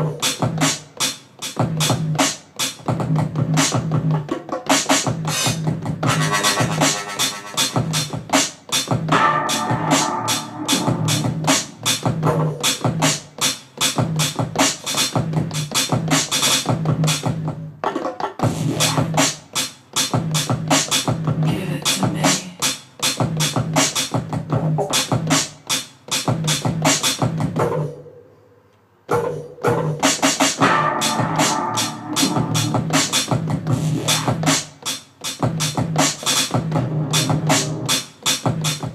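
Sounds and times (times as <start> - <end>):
electronic beat: 0.0 - 28.0, 29.1 - 38.9.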